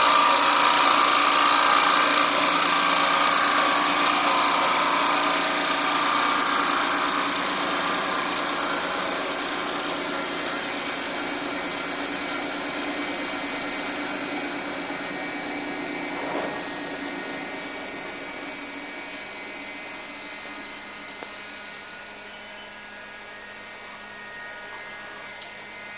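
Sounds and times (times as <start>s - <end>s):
power tool motor whine: 0.0s - 25.9s.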